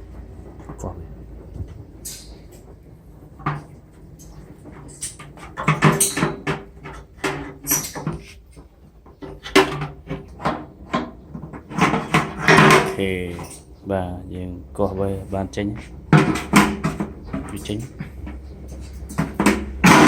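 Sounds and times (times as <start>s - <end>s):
knocks and clanks on metal parts: 0.6s - 13.8s, 15.5s - 20.0s.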